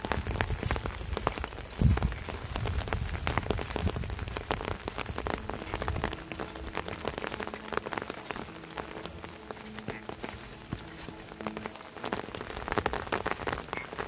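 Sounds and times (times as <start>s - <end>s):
rain hiss: 0.0s - 14.0s
raindrops hitting close by: 0.0s - 14.0s.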